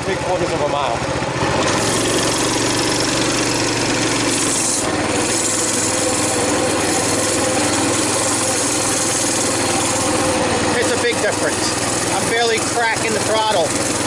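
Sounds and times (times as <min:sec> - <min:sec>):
mini bike engine running: 0:00.0 - 0:14.0.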